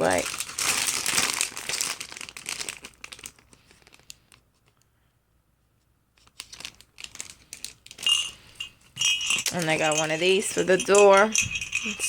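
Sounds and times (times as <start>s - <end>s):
plastic packaging crinkling: 0.0s - 4.8s, 6.2s - 11.9s.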